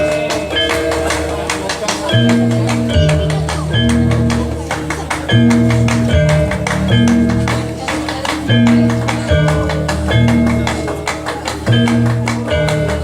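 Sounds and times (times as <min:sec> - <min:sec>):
gamelan music: 0:00.0 - 0:13.0.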